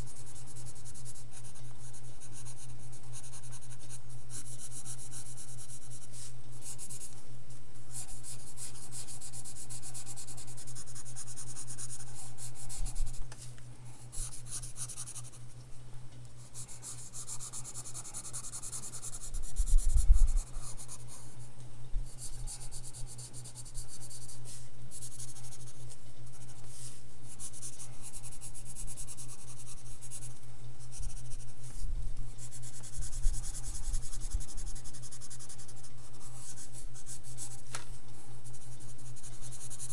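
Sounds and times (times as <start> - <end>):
pencil scratching on paper: 0.0 - 7.2, 7.9 - 13.2, 14.2 - 15.4, 16.4 - 21.2, 22.2 - 30.3, 32.4 - 37.6, 38.4 - 39.9
steady low hum: 0.0 - 39.9.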